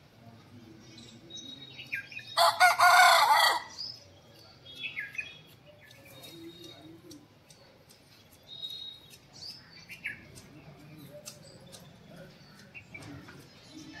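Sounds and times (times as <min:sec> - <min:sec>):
birds chirping faintly: 0:00.1 - 0:14.0.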